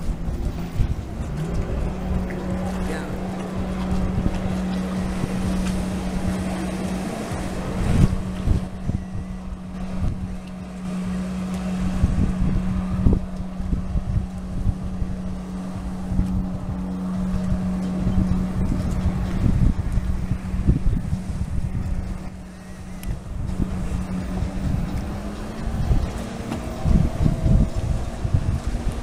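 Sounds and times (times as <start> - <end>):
jet ski engine drone: 0.0 - 29.0
wind buffeting microphone: 0.0 - 29.0.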